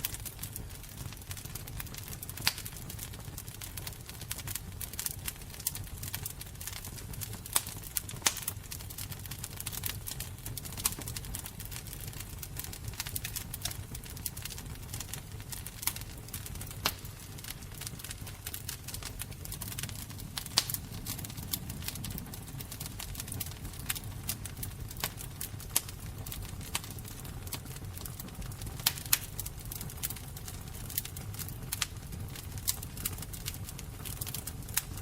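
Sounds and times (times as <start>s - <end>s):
fire crackling: 0.0s - 35.0s.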